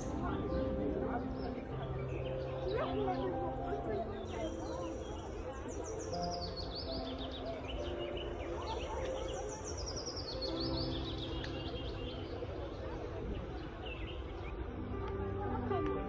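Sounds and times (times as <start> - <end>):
birds chirping: 0.0 - 15.2
outdoor background noise: 0.0 - 16.0.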